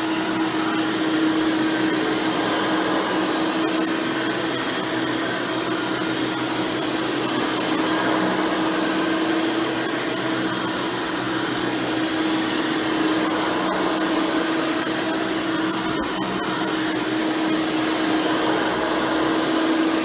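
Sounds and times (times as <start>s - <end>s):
upright vacuum cleaner running: 0.0s - 20.0s.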